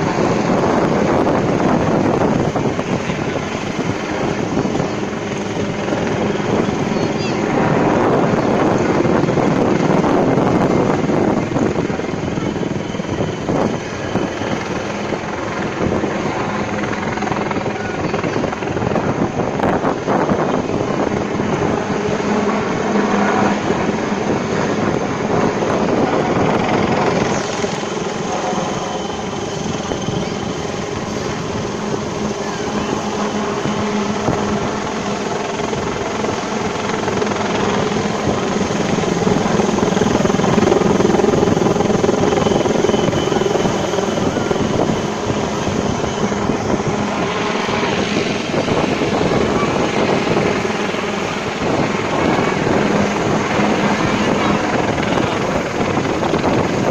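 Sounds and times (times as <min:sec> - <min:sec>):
helicopters droning overhead: 0:00.0 - 0:56.9.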